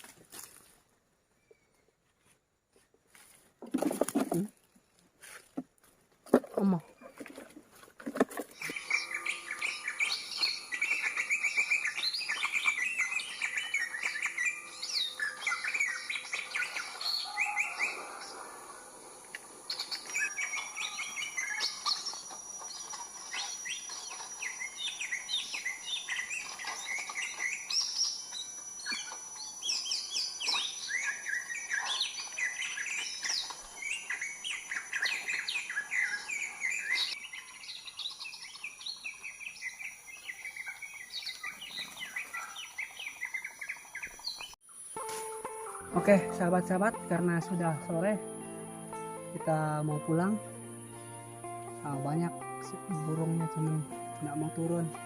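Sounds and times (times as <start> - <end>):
forest birds chirping: 0.0 - 55.0
high insect hum: 8.7 - 55.0.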